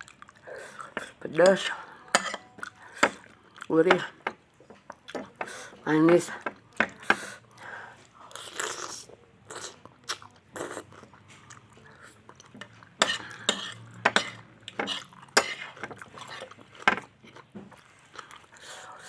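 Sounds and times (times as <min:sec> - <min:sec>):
chewing noodles: 0:00.0 - 0:01.8, 0:02.5 - 0:05.4, 0:06.6 - 0:19.0.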